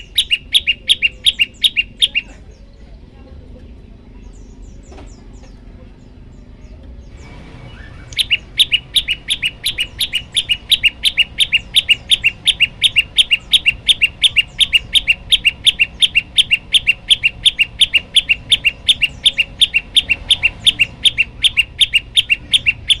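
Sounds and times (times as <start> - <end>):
bird chirping rapidly: 0.0 - 2.8, 4.2 - 23.0.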